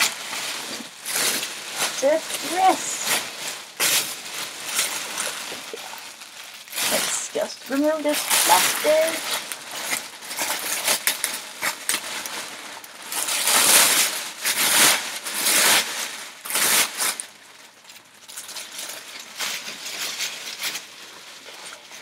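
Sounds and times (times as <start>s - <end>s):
plastic garment bag crinkling: 0.0s - 22.0s.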